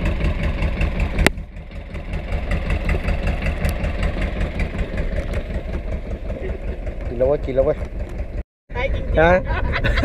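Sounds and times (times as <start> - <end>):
boat engine throbbing: 0.0 - 10.0.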